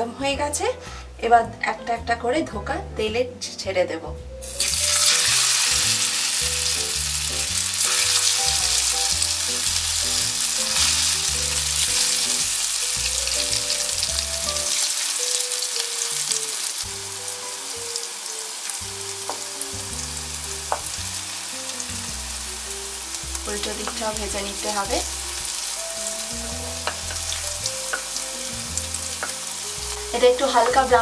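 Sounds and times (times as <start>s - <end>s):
background music: 0.0s - 31.0s
food sizzling in hot oil: 4.4s - 31.0s.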